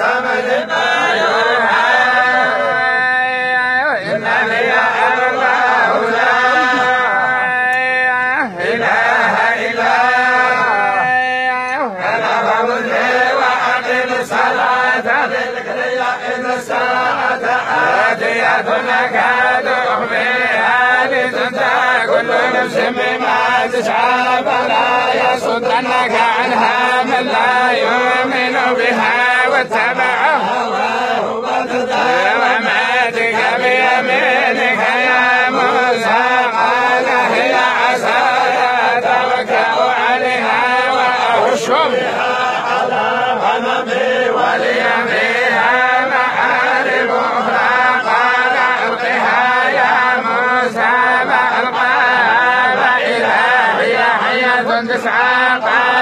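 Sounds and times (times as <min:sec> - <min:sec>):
men chanting in unison: 0:00.0 - 0:56.0.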